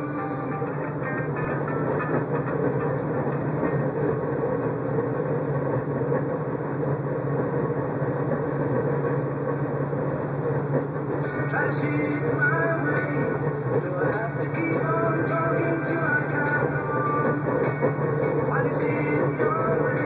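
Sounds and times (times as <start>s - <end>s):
car road noise: 0.0s - 20.0s.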